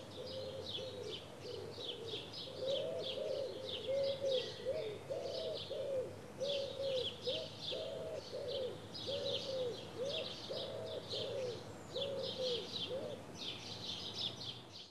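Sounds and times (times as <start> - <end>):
pigeon cooing: 0.0 - 13.3
songbirds chirping: 0.0 - 14.9.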